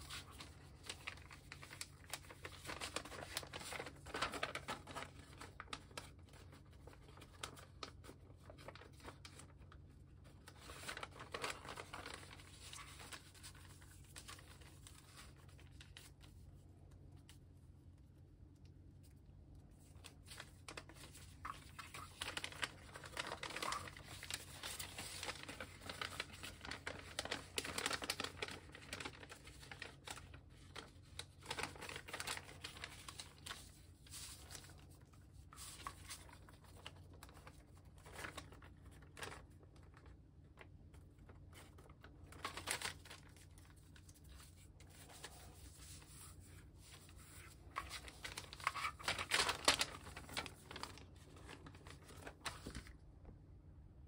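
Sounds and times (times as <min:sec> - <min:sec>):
paper rustling and crinkling: 0:00.0 - 0:17.5, 0:18.9 - 0:53.0.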